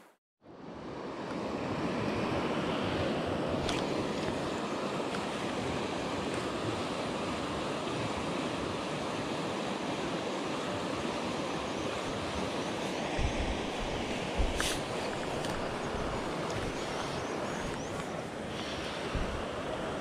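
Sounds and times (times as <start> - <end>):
river rapids rushing: 3.9 - 20.0.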